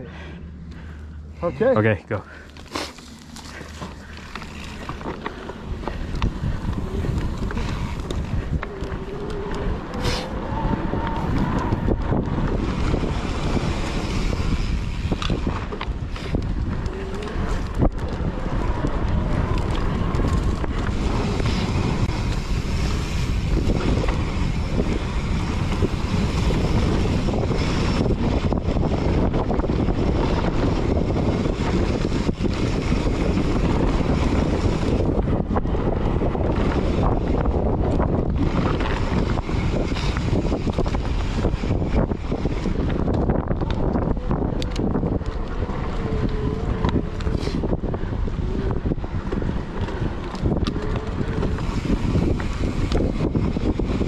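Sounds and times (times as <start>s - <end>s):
bike tyre rumble: 0.0s - 54.0s
wind rushing over microphone: 3.2s - 54.0s.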